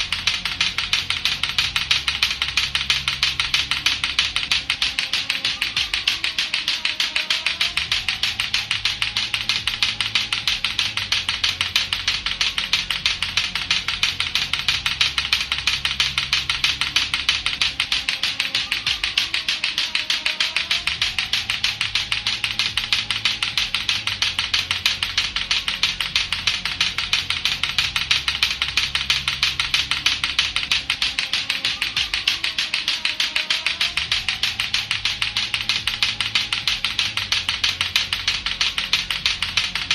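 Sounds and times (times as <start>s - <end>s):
plastic clacker balls knocking: 0.0s - 39.9s.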